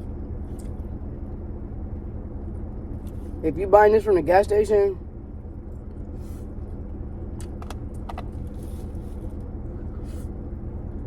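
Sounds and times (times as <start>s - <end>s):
car engine rumble from inside: 0.0s - 11.0s.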